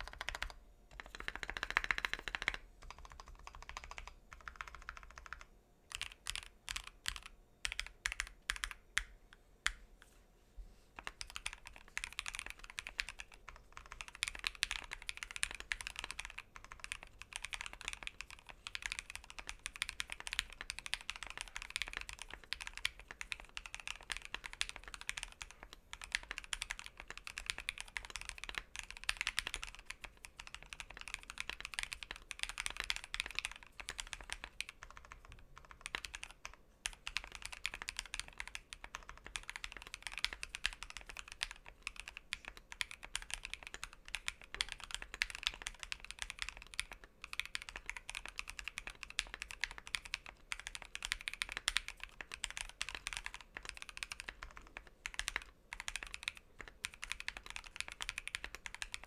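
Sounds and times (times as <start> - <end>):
mechanical keyboard typing: 0.0 - 9.1, 11.0 - 59.0.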